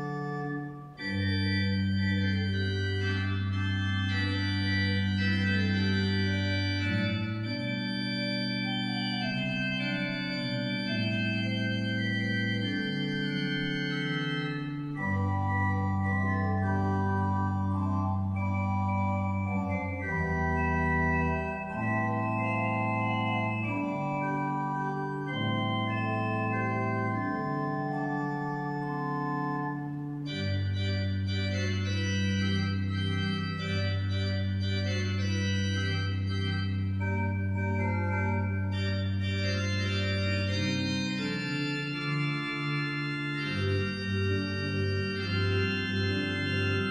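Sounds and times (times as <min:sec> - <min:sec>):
organ chords: 0:00.0 - 0:46.9.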